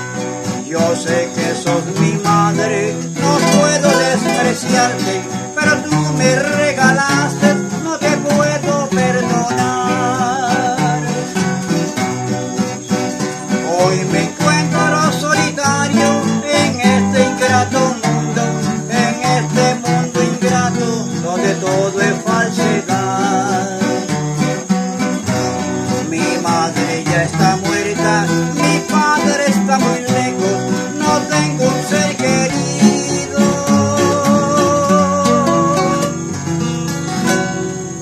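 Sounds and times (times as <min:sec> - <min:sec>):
two acoustic guitars playing: 0:00.0 - 0:38.0.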